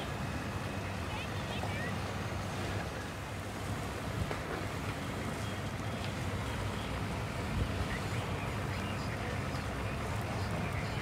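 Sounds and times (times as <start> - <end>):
outboard motors idling: 0.0 - 11.0.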